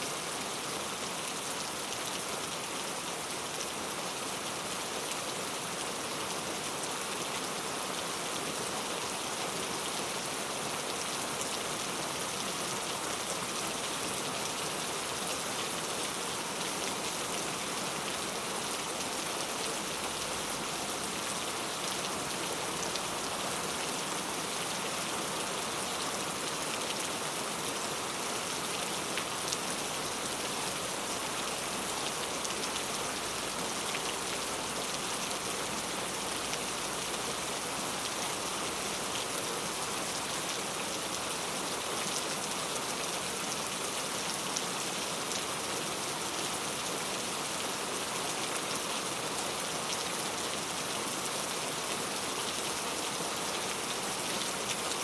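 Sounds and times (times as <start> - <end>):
heavy rain on a street: 0.0 - 55.0.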